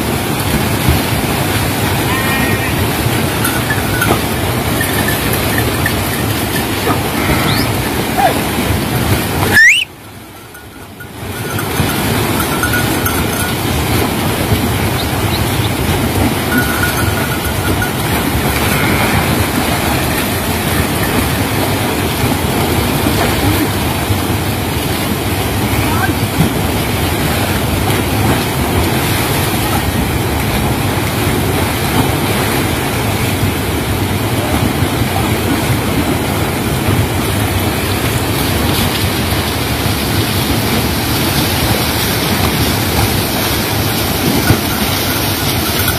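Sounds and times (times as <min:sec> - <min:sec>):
river water rushing over weir: 0:00.0 - 0:45.9.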